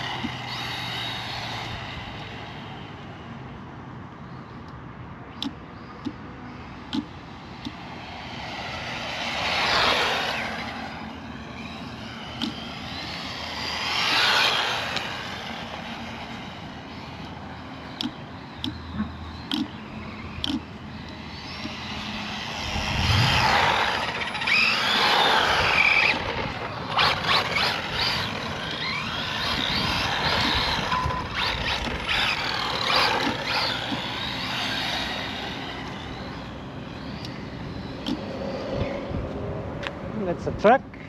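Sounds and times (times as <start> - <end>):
toy car electric motor whining: 0.0 - 3.2, 7.2 - 39.0.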